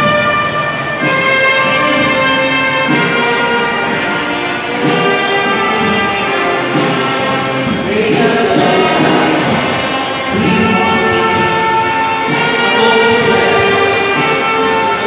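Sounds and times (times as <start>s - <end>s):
orchestral brass chords: 0.0s - 15.0s.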